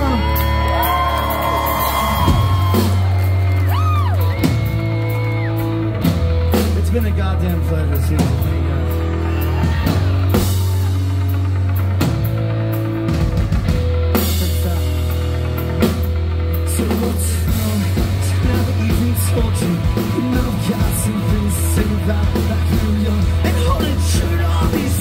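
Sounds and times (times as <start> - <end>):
electric guitars: 0.0 - 25.0.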